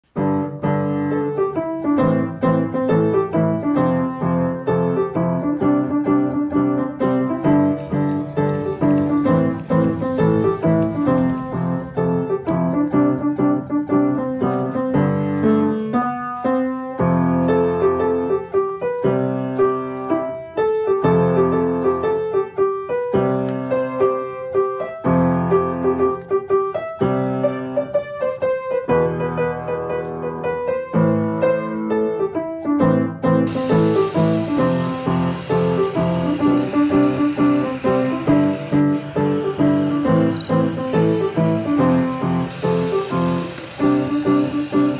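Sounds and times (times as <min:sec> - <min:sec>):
piano chords: 0:00.1 - 0:44.9.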